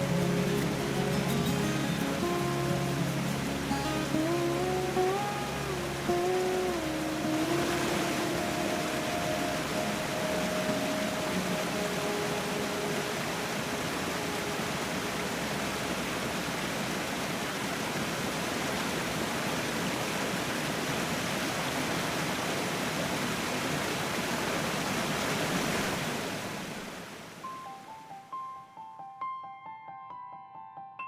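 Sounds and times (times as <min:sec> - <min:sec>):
waterfall rushing: 0:00.0 - 0:27.8.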